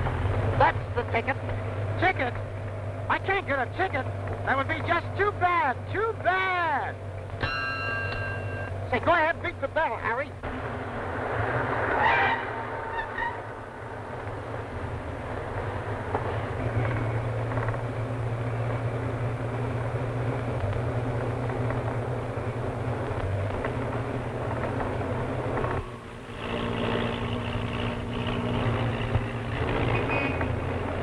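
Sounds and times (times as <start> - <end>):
car engine humming: 0.0 - 31.0
motorcycle engine: 0.0 - 31.0.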